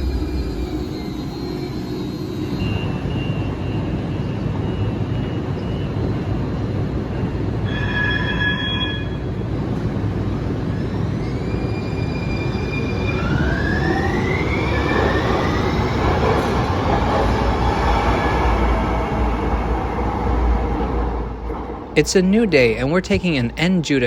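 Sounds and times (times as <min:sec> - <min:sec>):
train wheel and running noise: 0:00.0 - 0:24.0.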